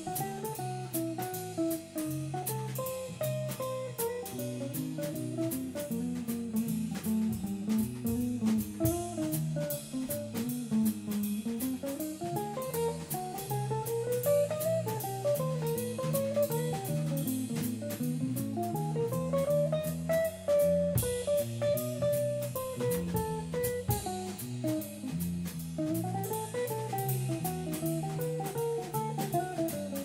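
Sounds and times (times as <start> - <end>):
jazz combo playing swing: 0.0 - 30.0.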